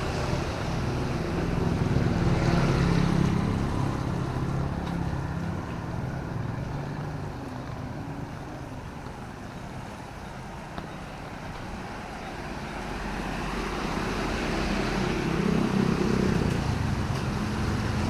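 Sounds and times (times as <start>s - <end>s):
vehicle passing on wet road: 0.0s - 9.8s, 11.8s - 18.0s.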